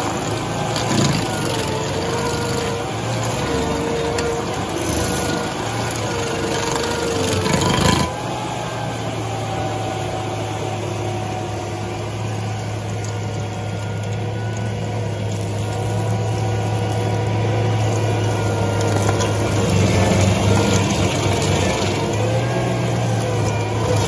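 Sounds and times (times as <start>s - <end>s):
cutter wheel grinding stump: 0.0s - 24.0s
petrol engine running under load: 0.0s - 24.0s.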